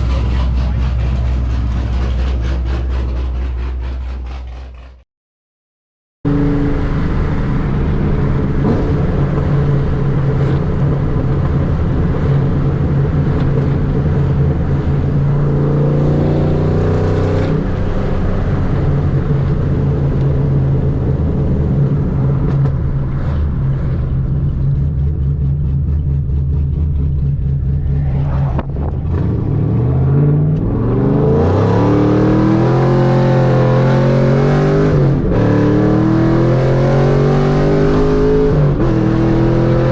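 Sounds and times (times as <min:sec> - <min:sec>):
car engine revving: 0:00.0 - 0:05.0, 0:06.3 - 0:39.9.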